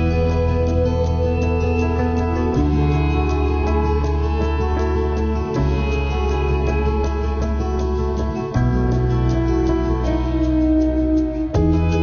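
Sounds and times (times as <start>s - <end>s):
sustained chords music: 0.0s - 12.0s.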